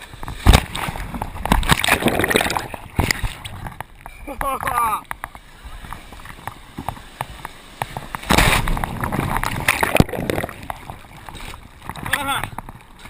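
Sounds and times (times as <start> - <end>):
water sloshing: 0.0 - 13.0
wave breaking: 0.0 - 13.0.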